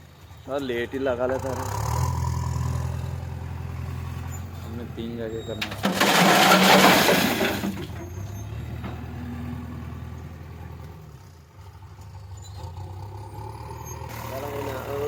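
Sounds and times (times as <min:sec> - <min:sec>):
diesel engine running: 0:00.1 - 0:11.8, 0:12.8 - 0:15.0.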